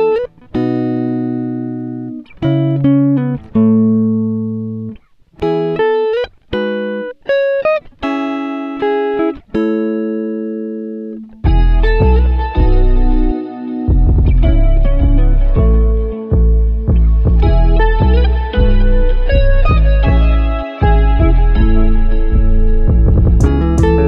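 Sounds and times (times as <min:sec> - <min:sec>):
plucked guitar tune: 0:00.0 - 0:24.0.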